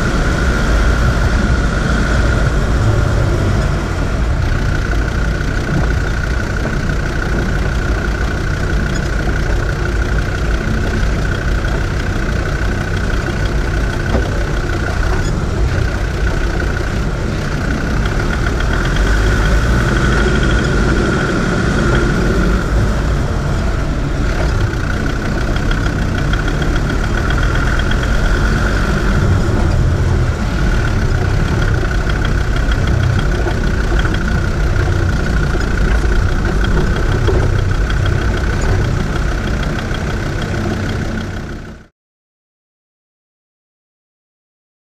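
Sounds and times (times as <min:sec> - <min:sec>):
high whine: 0:00.0 - 0:41.9
vehicle engine running: 0:00.0 - 0:41.9.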